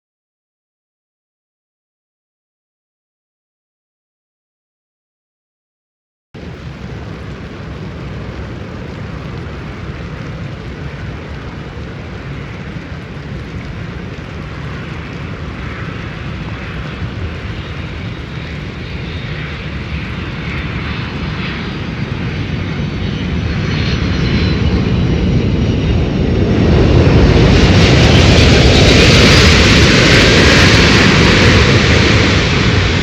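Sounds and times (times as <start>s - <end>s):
jet airliner engines roaring: 6.4s - 33.0s
wind rumbling on microphone: 6.4s - 33.0s.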